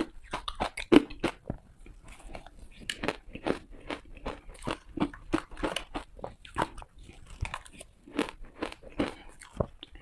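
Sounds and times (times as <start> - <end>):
teeth crunching ice: 0.0 - 10.0.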